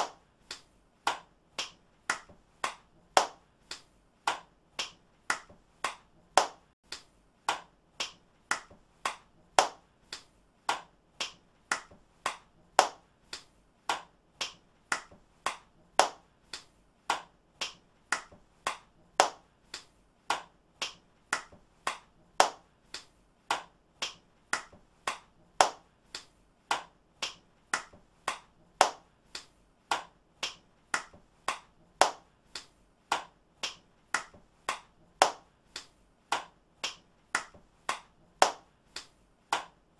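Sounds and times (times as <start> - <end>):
hand claps: 0.0 - 39.9.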